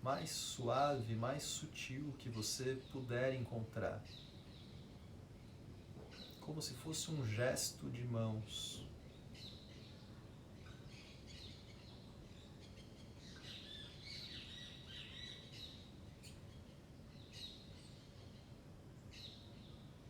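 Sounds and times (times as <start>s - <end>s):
faint birds chirping: 0.0s - 20.0s
low background hiss: 0.0s - 20.0s.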